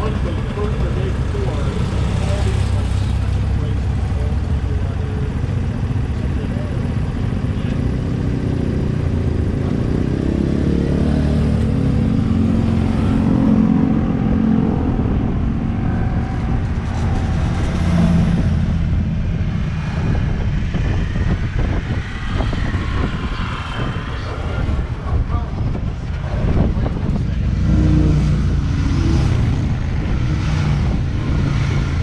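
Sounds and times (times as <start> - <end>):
tram engine rumble: 0.0 - 32.0.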